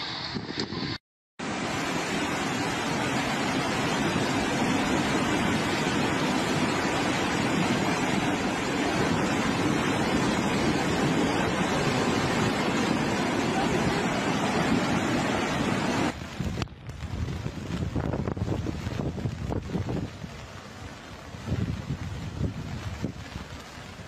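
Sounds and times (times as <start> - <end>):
muddy water rushing over rocks: 1.4 - 24.0.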